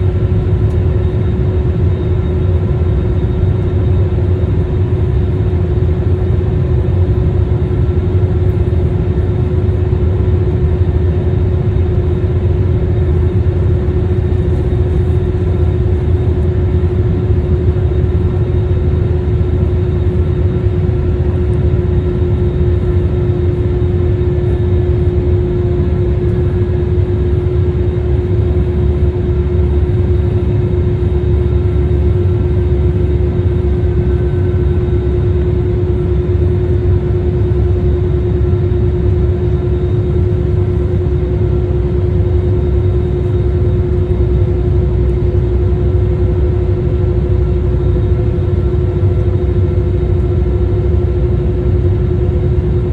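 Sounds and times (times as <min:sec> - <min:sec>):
jet engines rumbling in cabin: 0:00.0 - 0:52.9.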